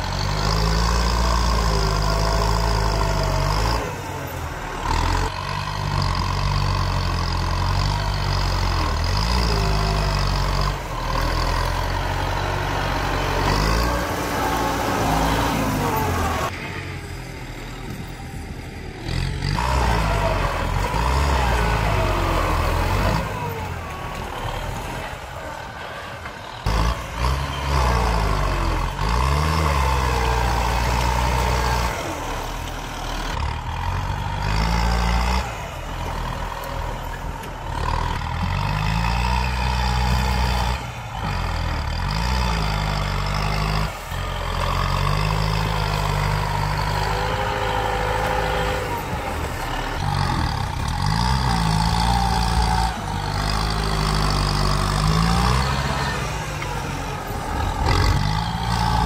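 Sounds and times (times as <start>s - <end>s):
tractor diesel engine working: 0.0s - 59.0s.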